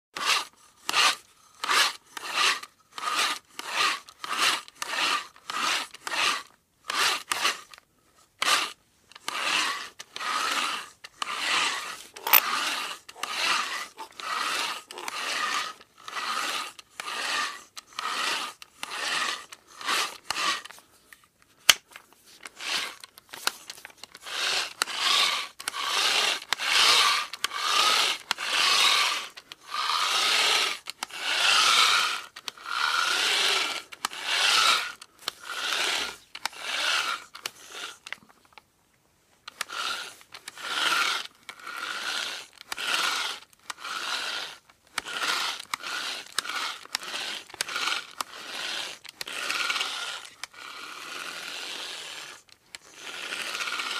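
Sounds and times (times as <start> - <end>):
hand drill rasping grind: 0.2 - 38.6, 39.4 - 53.9.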